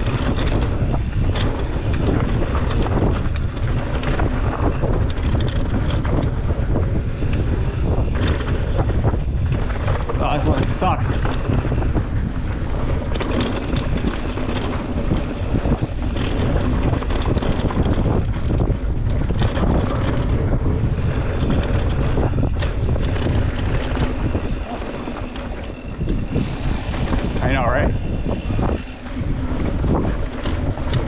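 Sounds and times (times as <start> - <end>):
bike rattling: 0.0 - 31.0
tyres rolling over dirt trail: 0.0 - 31.0
wind rushing over microphone: 0.0 - 31.0.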